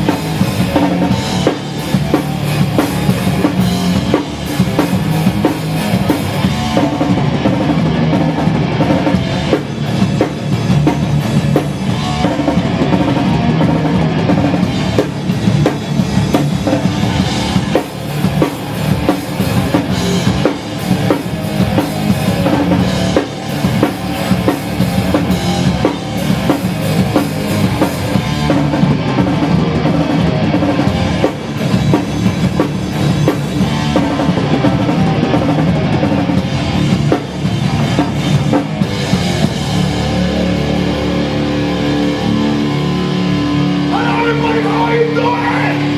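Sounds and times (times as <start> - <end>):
punk band playing: 0.0 - 45.9.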